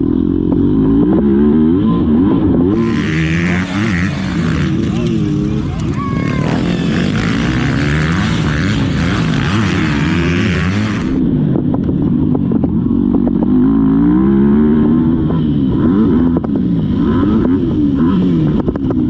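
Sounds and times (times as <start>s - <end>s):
dirt bike engine revving: 0.0s - 11.2s, 13.4s - 19.0s.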